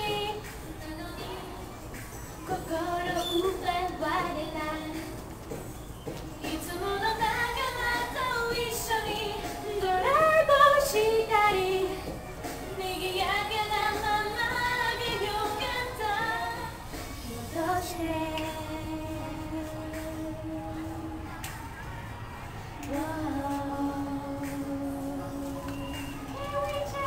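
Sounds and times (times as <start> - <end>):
women singing pop song: 0.0 - 21.8, 22.8 - 27.0
backing track music: 0.0 - 27.0.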